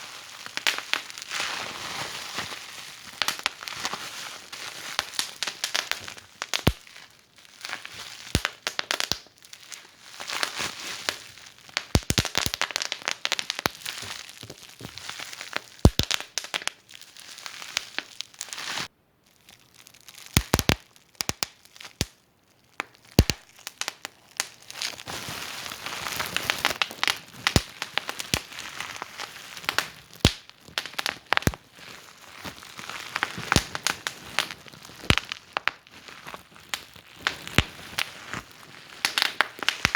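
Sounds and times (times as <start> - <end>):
wood fire crackling: 0.0 - 1.5, 2.4 - 18.9, 19.5 - 39.9.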